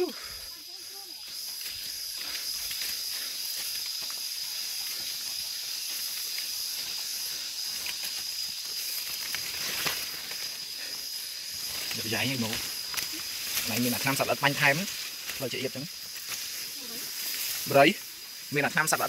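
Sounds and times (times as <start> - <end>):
footsteps on grass trail: 0.0 - 19.0
rustling grass and leaves: 0.0 - 19.0
steady high hiss: 0.0 - 19.0.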